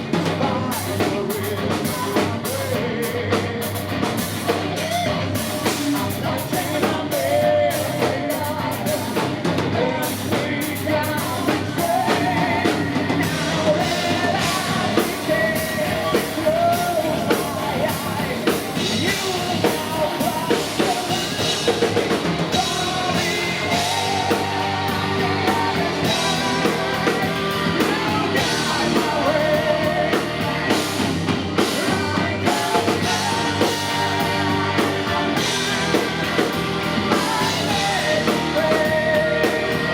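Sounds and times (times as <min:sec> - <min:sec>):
heavy metal band playing live: 0:00.0 - 0:39.9
lead singer's voice: 0:00.0 - 0:39.9.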